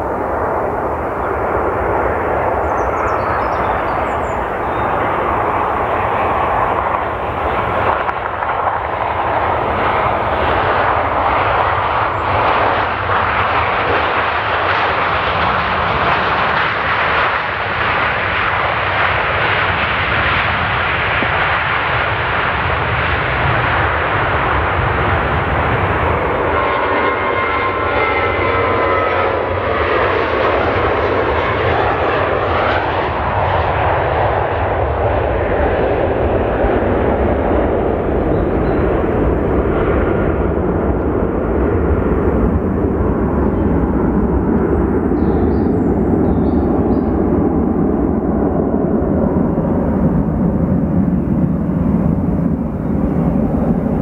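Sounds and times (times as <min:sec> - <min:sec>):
jet airliner landing: 0:00.0 - 0:54.0
jet airliner taking off: 0:00.0 - 0:54.0.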